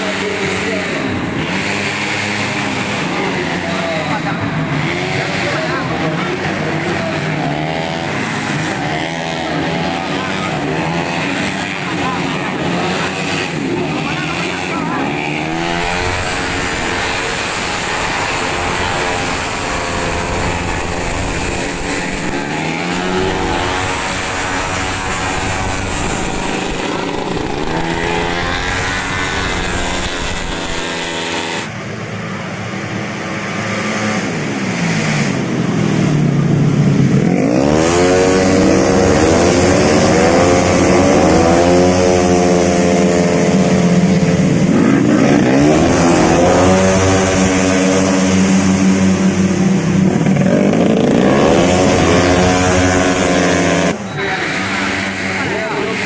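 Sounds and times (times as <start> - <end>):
racing scooter engines: 0.0 - 56.0.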